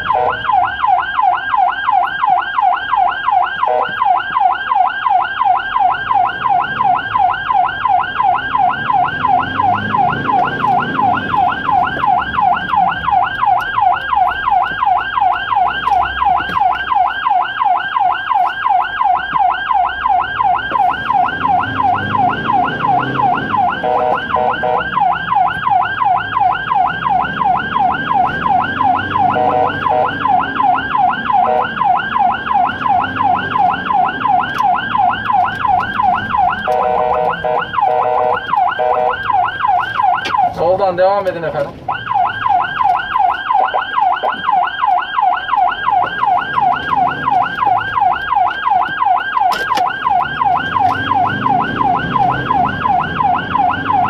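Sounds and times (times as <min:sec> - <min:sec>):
ambulance siren yelping: 0:00.0 - 0:54.0
vehicle road and engine noise: 0:00.0 - 0:54.0.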